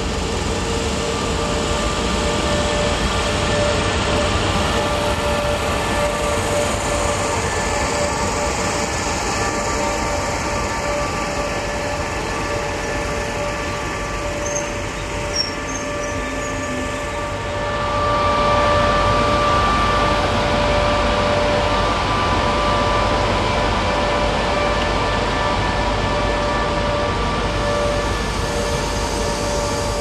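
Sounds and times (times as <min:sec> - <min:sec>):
locomotive two-tone hum: 0:00.0 - 0:30.0
train wheels rumbling: 0:00.0 - 0:30.0.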